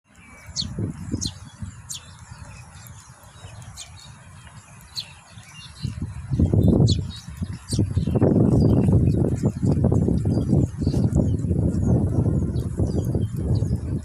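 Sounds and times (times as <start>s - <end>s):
sparrows chirping: 0.1s - 14.0s.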